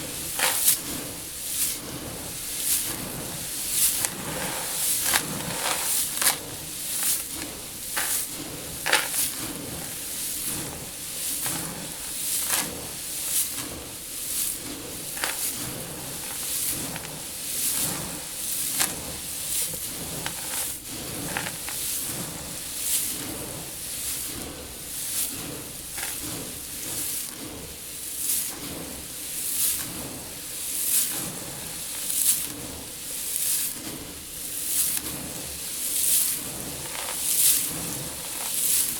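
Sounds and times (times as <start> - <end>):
seed grains swishing: 0.0 - 27.3, 34.4 - 38.9.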